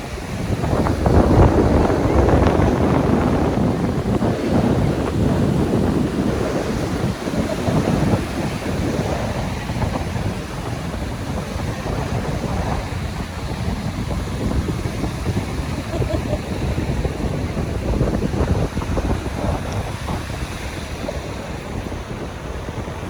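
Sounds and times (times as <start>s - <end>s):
surf on a beach: 0.0s - 23.0s
wind buffeting microphone: 0.0s - 23.0s.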